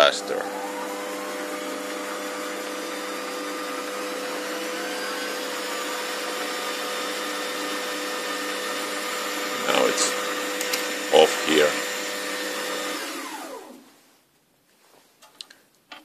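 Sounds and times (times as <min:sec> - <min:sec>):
metal lathe whining and humming: 0:00.0 - 0:13.8.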